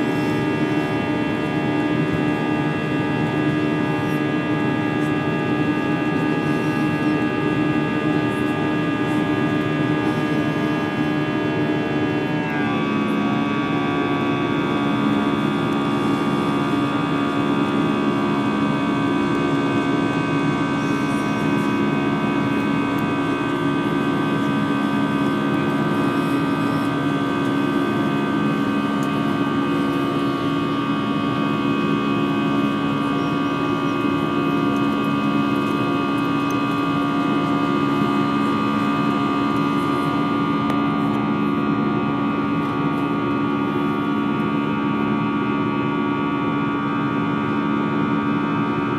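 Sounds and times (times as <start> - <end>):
aircraft engine hum: 0.0 - 48.9.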